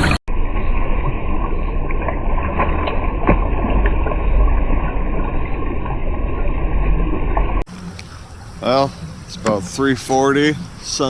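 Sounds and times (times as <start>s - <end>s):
heavy low rumble: 0.0s - 11.0s
water splashing along hull: 0.0s - 11.0s.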